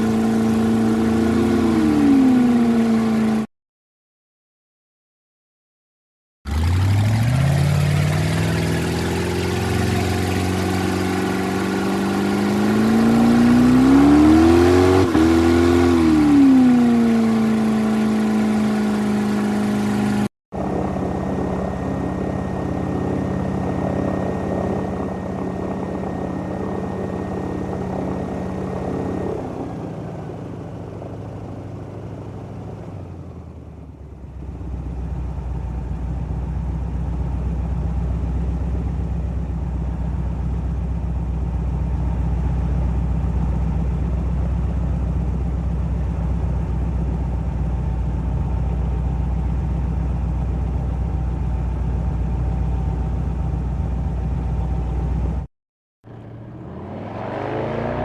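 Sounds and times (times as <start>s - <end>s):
airboat engine and propeller: 0.0s - 3.5s, 6.5s - 55.5s, 56.1s - 58.0s.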